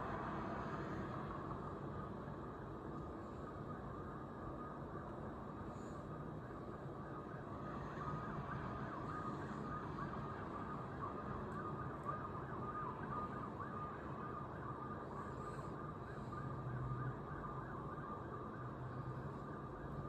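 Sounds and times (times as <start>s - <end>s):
distant siren wailing: 0.0s - 20.0s
faint low drone: 0.0s - 20.0s.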